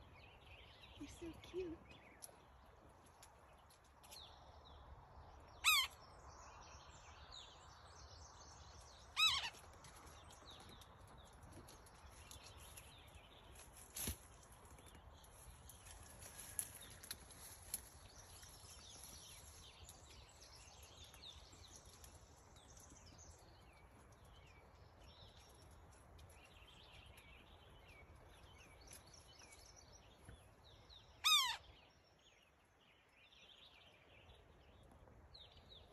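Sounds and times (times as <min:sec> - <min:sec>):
faint birdsong: 0:00.0 - 0:35.9.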